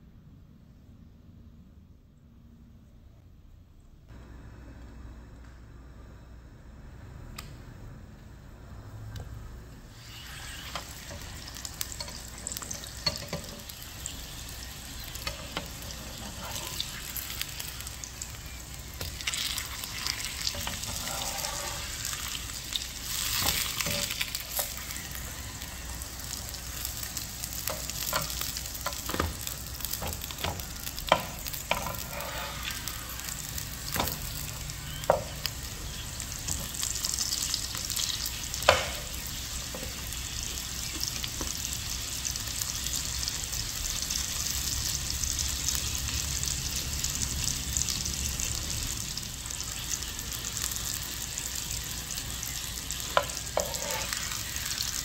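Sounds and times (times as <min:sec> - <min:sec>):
flatbreads sizzling in oil: 0:09.7 - 0:55.0.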